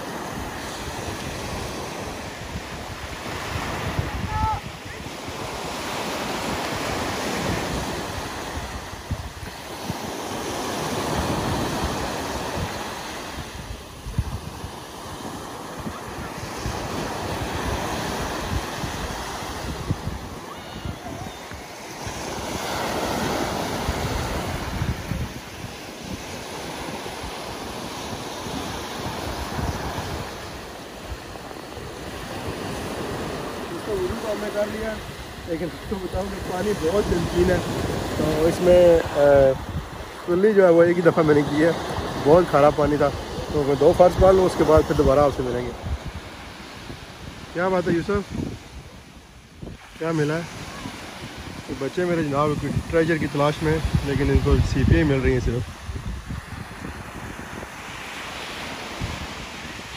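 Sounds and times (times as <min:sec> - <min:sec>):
sea waves breaking on beach: 0:00.0 - 0:59.9
wind buffeting microphone: 0:00.0 - 0:59.9.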